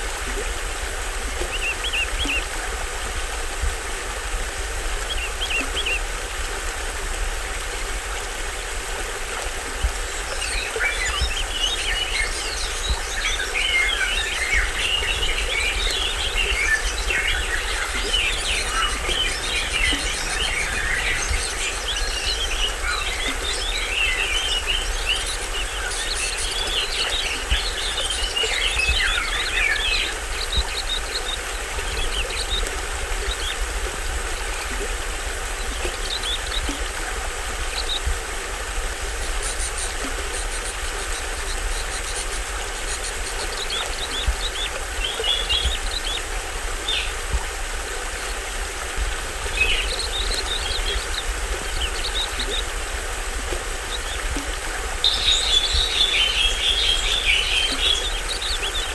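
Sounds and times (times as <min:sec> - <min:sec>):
small waterfall running: 0:00.0 - 0:58.9
forest birds chirping: 0:09.8 - 0:38.1, 0:38.9 - 0:58.9.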